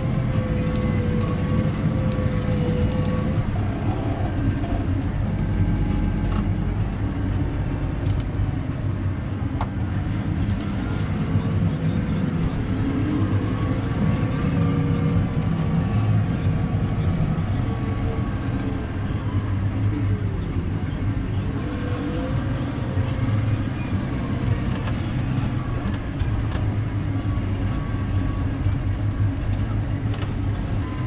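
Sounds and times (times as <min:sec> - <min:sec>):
tractor engine running under load: 0:00.0 - 0:31.0.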